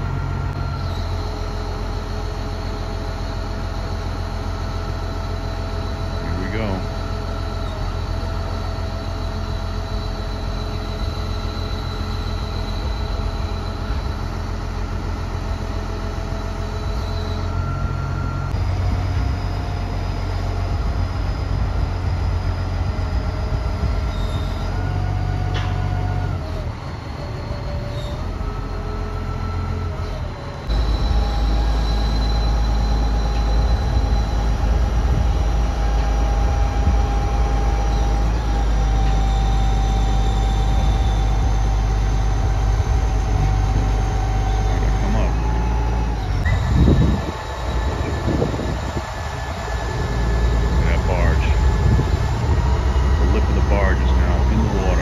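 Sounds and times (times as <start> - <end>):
crane engine running under load: 0.0 - 55.0.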